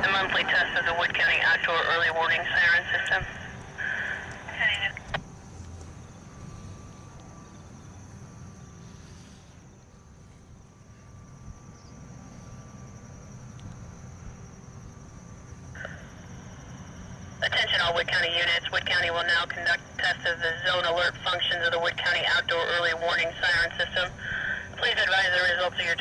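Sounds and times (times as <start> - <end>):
crickets chirring: 0.0 - 26.0
distant traffic rumble: 0.0 - 26.0.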